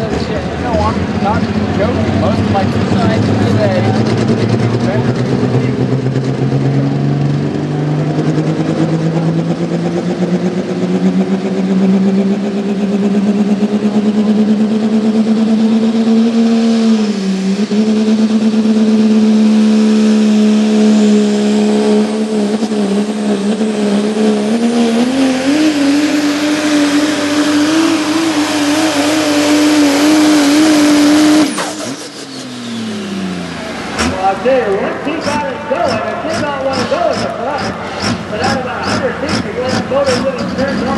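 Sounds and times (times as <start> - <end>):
truck engine at full throttle: 0.0 - 40.9.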